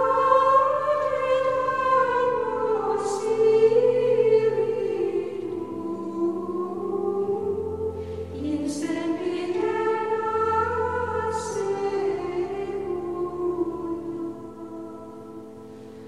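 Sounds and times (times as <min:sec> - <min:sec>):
slow singing in harmony: 0:00.0 - 0:16.0
soft sibilant consonants: 0:00.0 - 0:16.0.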